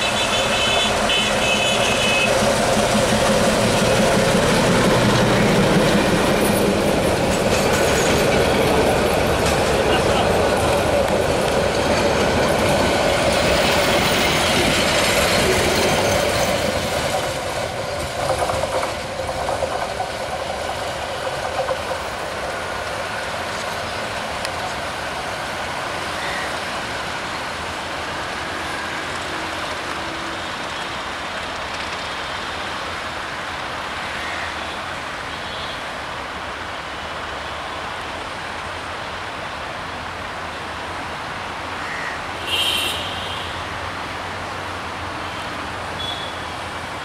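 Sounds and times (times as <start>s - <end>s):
train rolling noise: 0.0s - 47.0s.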